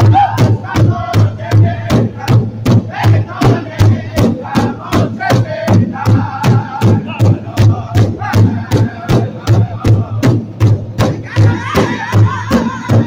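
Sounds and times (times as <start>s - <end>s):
large drum beating: 0.0s - 13.0s
men singing in high voices: 0.0s - 13.0s.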